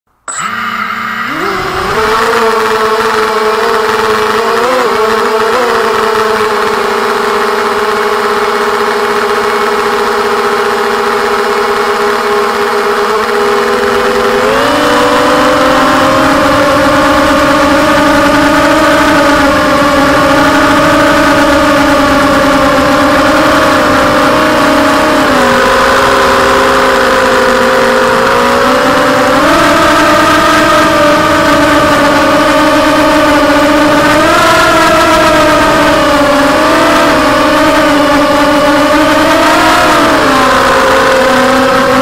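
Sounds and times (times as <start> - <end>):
drone motors whining: 0.3 - 42.0.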